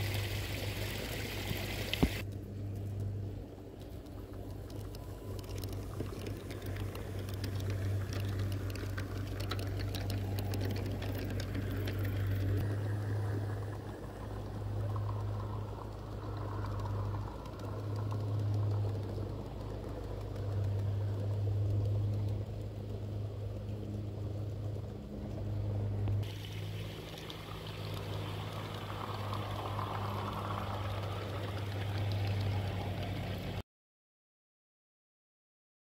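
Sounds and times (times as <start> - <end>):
model train locomotive hum: 0.0 - 33.6
wheels rumbling on rails: 0.0 - 33.6.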